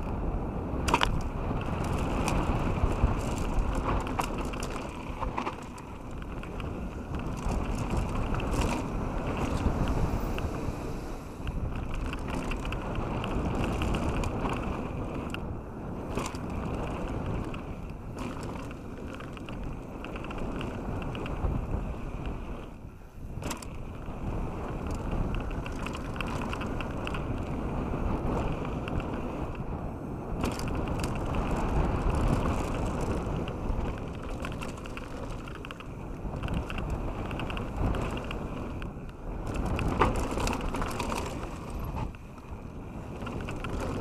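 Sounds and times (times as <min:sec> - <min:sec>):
bike rattling and clicking: 0:00.0 - 0:44.0
bike tyres crunching over gravel: 0:00.0 - 0:44.0
wind on microphone: 0:00.0 - 0:44.0.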